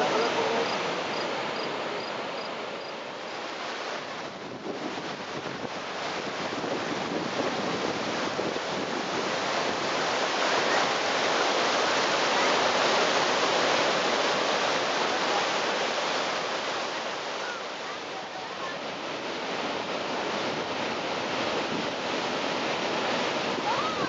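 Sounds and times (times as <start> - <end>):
river rapids rushing: 0.0 - 4.4, 5.7 - 24.0.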